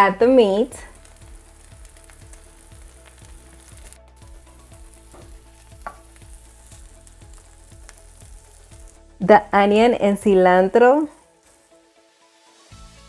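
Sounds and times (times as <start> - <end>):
cheese and tortilla sizzling: 0.0 - 13.0.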